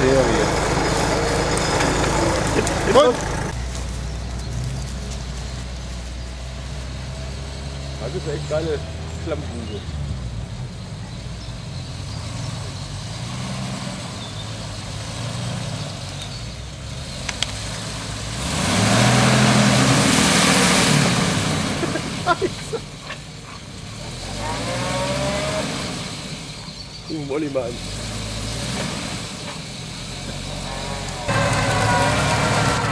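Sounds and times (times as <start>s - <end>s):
engine revving: 0.0s - 3.7s, 6.5s - 10.8s, 11.4s - 32.9s.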